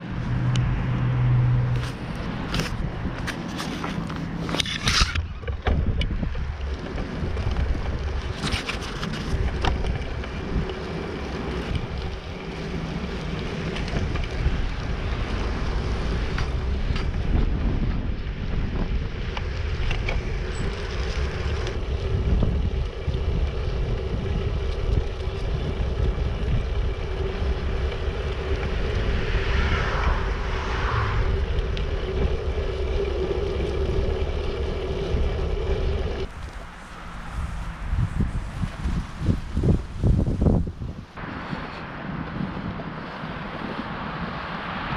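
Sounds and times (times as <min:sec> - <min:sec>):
bicycle tyres rolling on snow: 0:00.0 - 0:44.9
wind buffeting microphone: 0:00.0 - 0:44.9.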